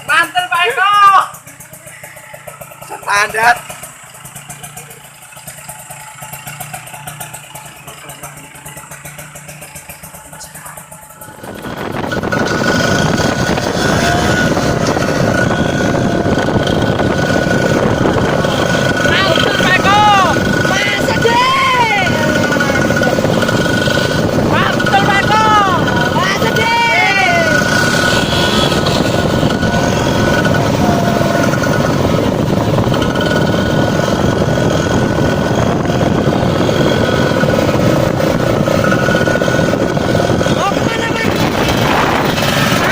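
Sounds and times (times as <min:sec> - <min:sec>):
two-stroke motorcycle engine running: 0:00.0 - 0:42.9.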